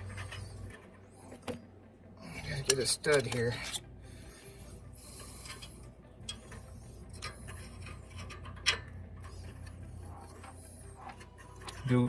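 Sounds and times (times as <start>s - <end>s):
metal parts clicking and rubbing: 0.0s - 1.7s, 2.4s - 12.0s
low steady hum: 0.0s - 12.0s.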